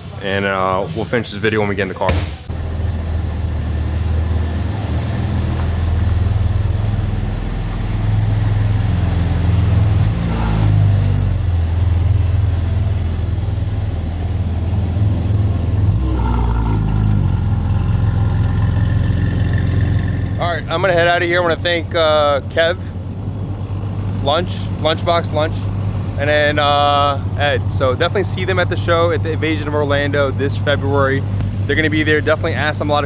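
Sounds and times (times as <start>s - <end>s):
car engine running: 2.4s - 33.0s.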